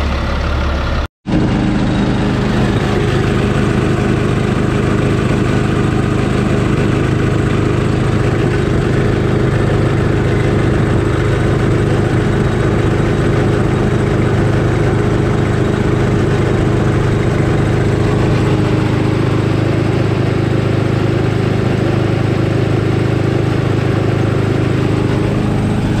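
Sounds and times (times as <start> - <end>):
air compressor running: 0.0 - 26.0.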